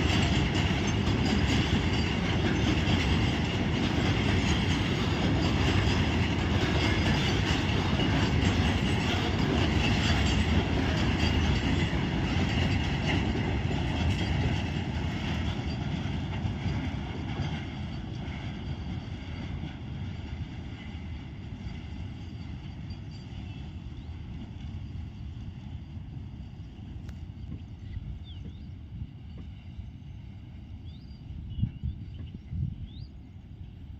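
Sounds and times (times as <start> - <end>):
train wheels clattering over rails: 0.0 - 29.8.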